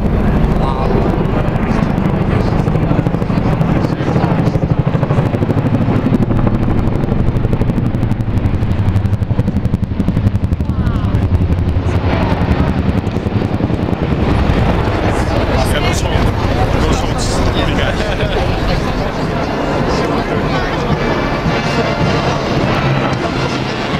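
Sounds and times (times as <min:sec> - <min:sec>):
helicopter rotor blades thudding: 0:00.0 - 0:23.9.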